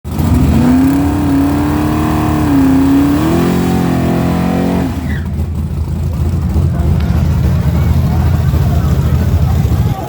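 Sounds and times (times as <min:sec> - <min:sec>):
engine running under load: 0:00.0 - 0:10.0.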